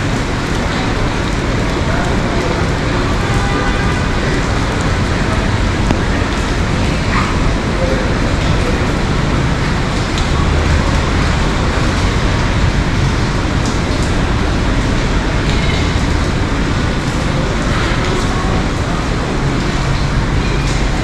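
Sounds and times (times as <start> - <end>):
heavy rain on street: 0.0 - 21.0
road traffic rumble: 0.0 - 21.0.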